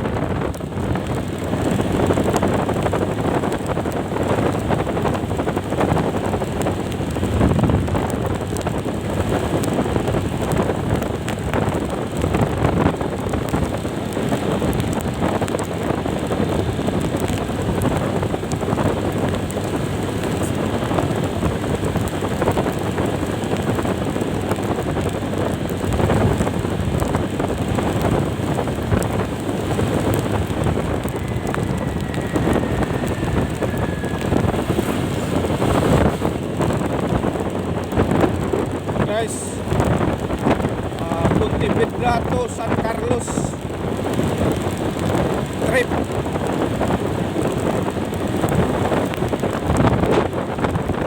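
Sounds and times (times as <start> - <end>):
road and engine noise: 0.0 - 51.0
wind rushing over microphone: 0.0 - 51.0.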